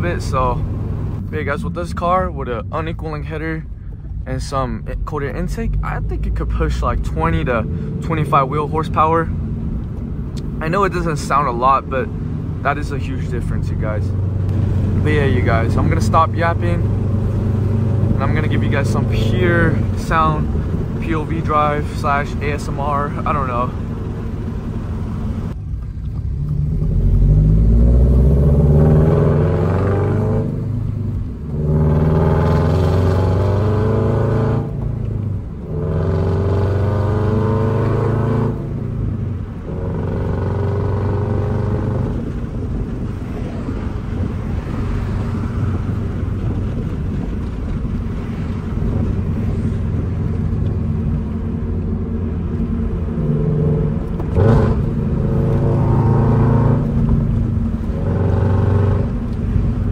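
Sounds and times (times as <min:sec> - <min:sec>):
car engine accelerating hard: 0:04.2 - 0:59.9.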